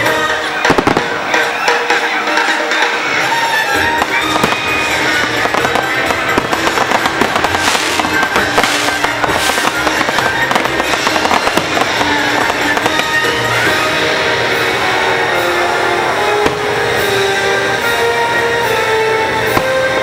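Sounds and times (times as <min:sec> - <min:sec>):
fireworks bursting and crackling: 0:00.0 - 0:20.0
fireworks hissing: 0:00.0 - 0:20.0
loud music: 0:00.0 - 0:20.0.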